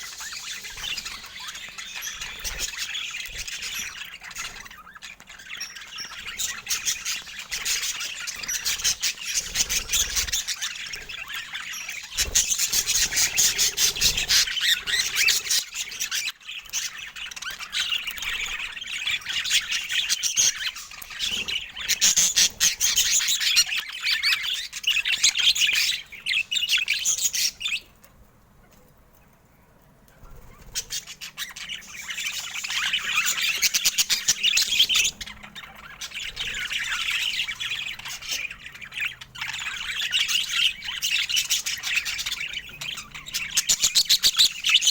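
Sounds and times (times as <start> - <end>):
budgerigars chattering and chirping: 0.0 - 28.0, 30.2 - 44.9.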